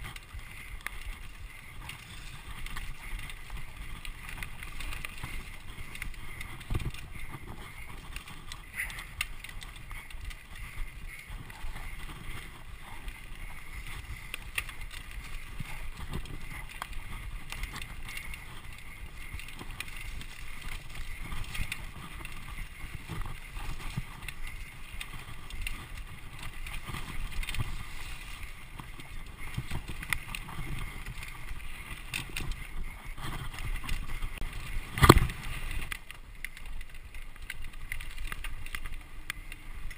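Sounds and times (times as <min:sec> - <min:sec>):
bike rattling over bumps: 0:00.0 - 0:39.9
bike riding rumble: 0:00.0 - 0:39.9.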